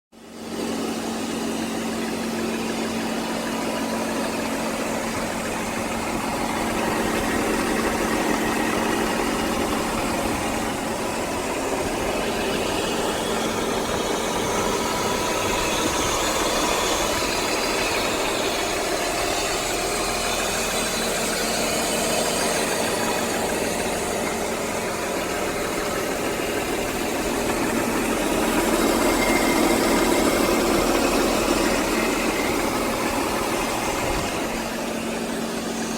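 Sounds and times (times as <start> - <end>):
car engine idling: 0.2 - 35.9.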